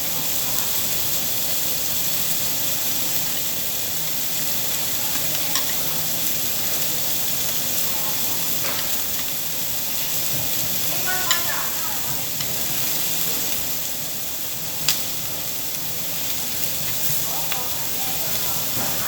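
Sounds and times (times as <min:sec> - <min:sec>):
meat sizzling on a grill: 0:00.0 - 0:19.0.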